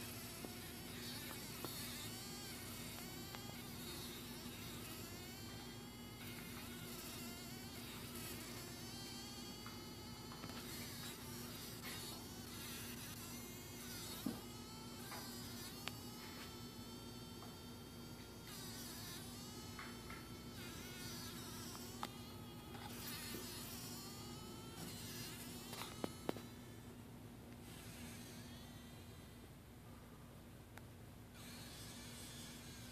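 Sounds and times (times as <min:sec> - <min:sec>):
fly buzzing in bursts: 0:00.0 - 0:26.9, 0:27.6 - 0:29.4, 0:31.3 - 0:32.9.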